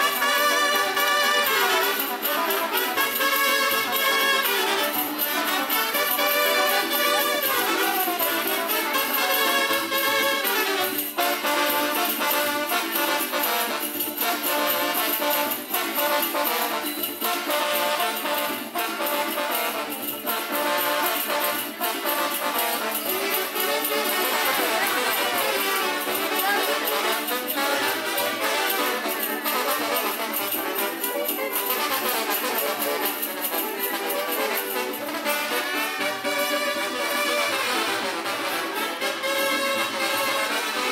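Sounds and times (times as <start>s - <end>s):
jingling leg bells: 0.0s - 37.2s
brass band playing dance music: 0.0s - 40.9s.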